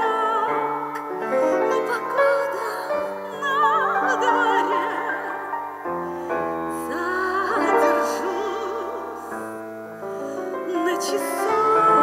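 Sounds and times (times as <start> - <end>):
woman singing with vibrato: 0.0 - 9.6, 10.6 - 12.0.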